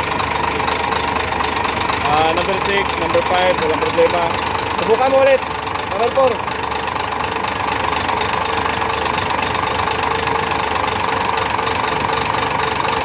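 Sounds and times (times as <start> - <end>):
diesel engine idling with rapid knock: 0.0 - 13.0.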